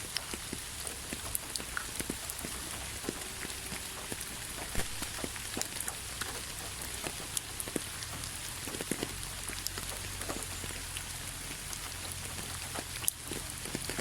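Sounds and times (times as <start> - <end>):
rain hissing: 0.0 - 14.0
raindrops ticking: 0.0 - 14.0.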